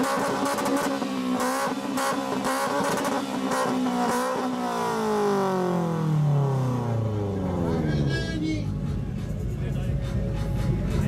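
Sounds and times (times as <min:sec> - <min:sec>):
car exhaust revving: 0:00.0 - 0:11.0.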